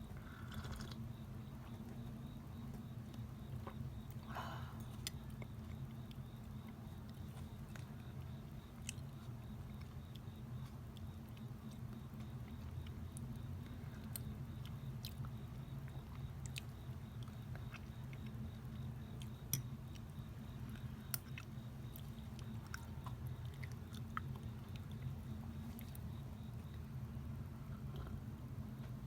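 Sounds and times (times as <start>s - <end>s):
close-miked chewing: 0.1s - 26.9s.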